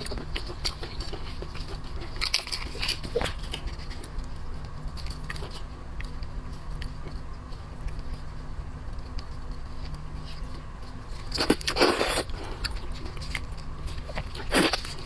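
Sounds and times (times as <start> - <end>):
crab shell cracking and chewing: 0.0 - 15.0
steady low hum: 0.0 - 15.0.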